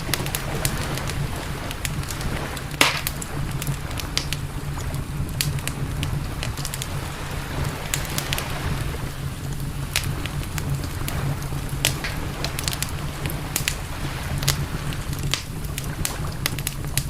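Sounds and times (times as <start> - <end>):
campfire crackling: 0.0 - 17.0
fire pops and snaps: 0.0 - 17.0
steady low rumble: 0.0 - 17.0.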